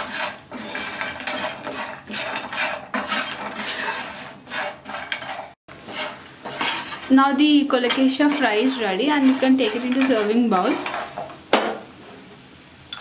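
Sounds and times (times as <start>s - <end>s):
spoon scraping frying pan: 0.0s - 12.3s.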